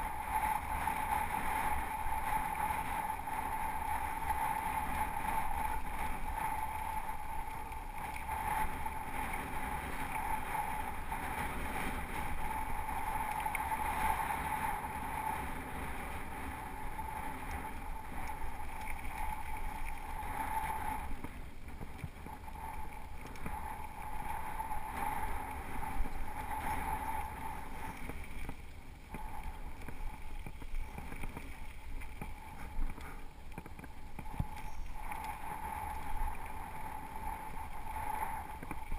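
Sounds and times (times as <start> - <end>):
wind on microphone: 0.0 - 38.9.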